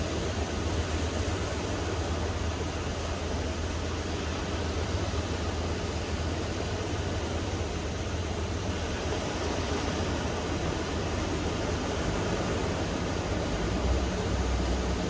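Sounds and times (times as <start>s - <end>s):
waves washing on a beach: 0.0s - 15.0s.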